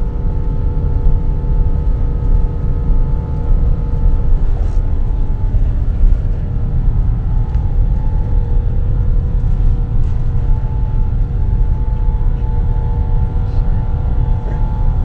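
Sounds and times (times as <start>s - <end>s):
constant humming tones: 0.0s - 15.0s
jet engine cabin rumble: 0.0s - 15.0s.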